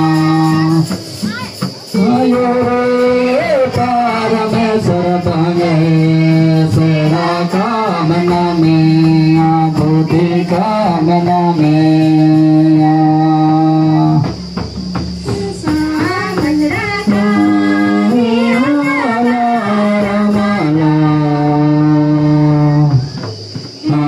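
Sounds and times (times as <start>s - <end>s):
male choir singing a hymn: 0.0s - 1.0s, 1.8s - 14.3s, 17.0s - 23.1s
barrel drums beating: 0.0s - 20.9s, 22.5s - 24.0s.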